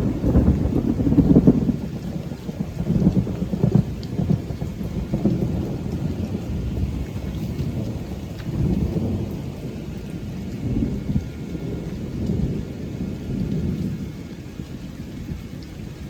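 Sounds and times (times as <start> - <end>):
low thunder rumbling: 0.0 - 16.0
rain falling: 0.0 - 16.0.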